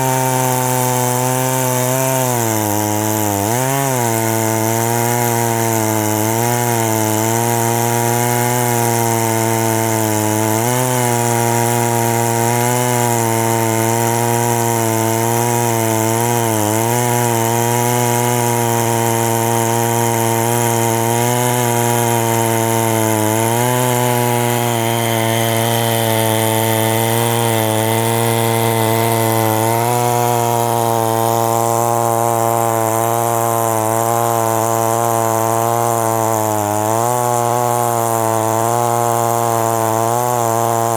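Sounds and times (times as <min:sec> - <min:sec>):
chainsaw cutting under load: 0:00.0 - 0:40.9.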